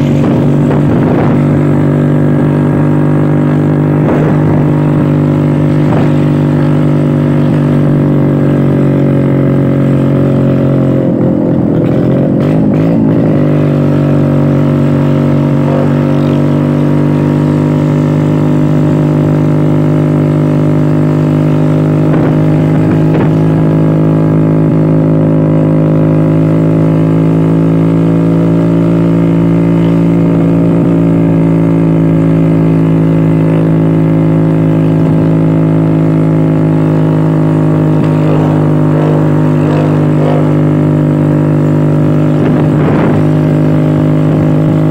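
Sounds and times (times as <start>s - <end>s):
scooter engine running: 0.0s - 44.9s.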